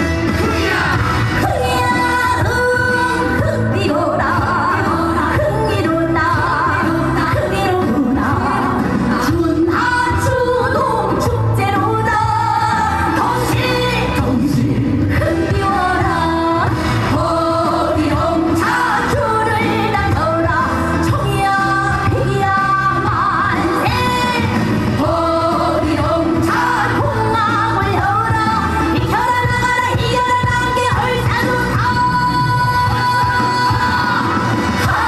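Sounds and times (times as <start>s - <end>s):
amplified band backing: 0.0s - 35.0s
woman singing: 0.4s - 35.0s.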